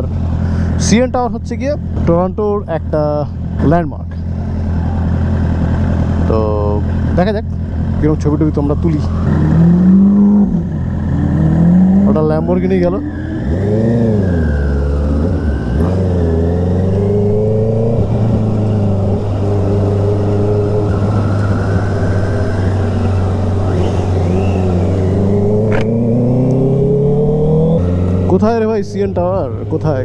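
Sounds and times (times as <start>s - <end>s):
motorcycle engine revving: 4.2s - 30.0s.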